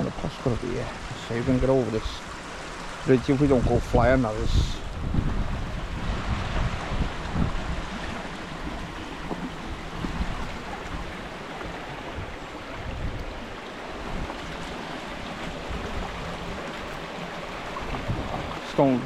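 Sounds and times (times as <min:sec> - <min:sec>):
river water rushing: 0:00.0 - 0:19.0
wind gusts on microphone: 0:00.0 - 0:19.0.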